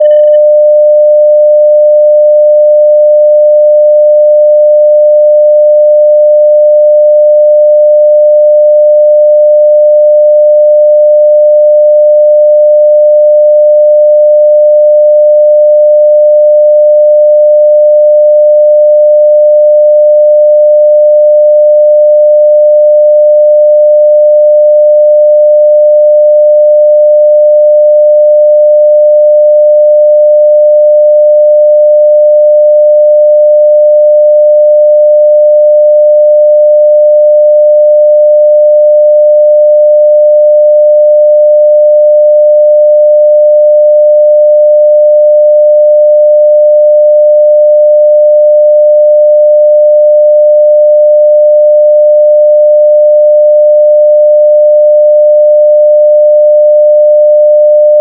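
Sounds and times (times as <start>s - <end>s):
sine wave test tone: 0.0s - 58.0s.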